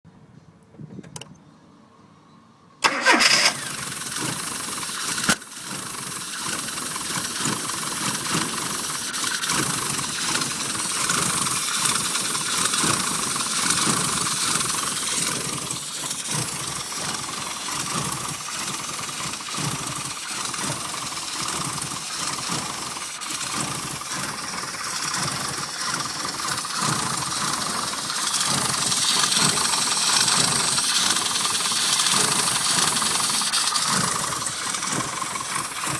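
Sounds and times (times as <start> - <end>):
car engine starting: 2.8 - 35.9
engine idling roughly and sputtering: 2.8 - 35.9.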